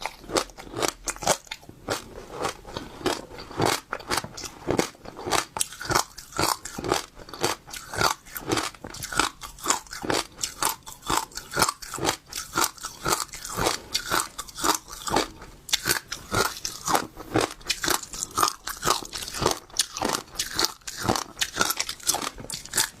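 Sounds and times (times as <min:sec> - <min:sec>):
crunchy seeds being chewed: 0:00.0 - 0:23.0.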